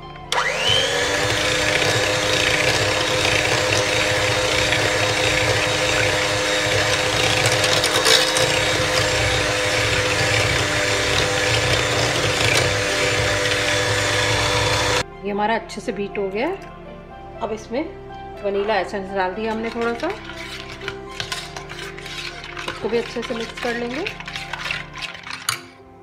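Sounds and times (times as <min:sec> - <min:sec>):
electric hand mixer running: 0:00.0 - 0:15.0, 0:19.4 - 0:25.6.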